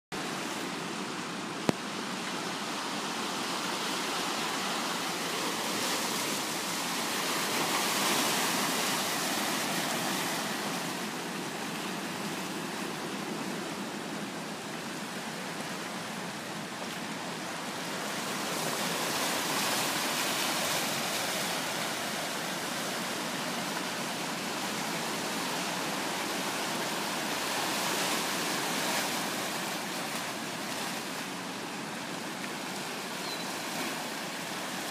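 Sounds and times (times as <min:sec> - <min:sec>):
ocean surf on rocky shore: 0:00.2 - 0:34.9.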